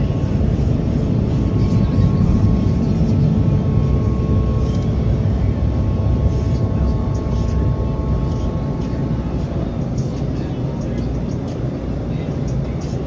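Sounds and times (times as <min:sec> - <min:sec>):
faint hum: 0:00.0 - 0:13.0
trolley car rumbling: 0:00.0 - 0:13.0.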